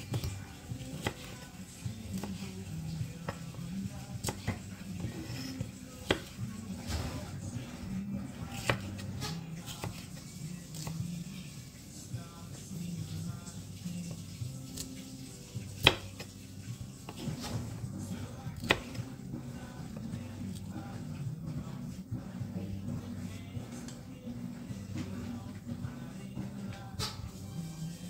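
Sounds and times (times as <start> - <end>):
low background music: 0.0 - 28.0.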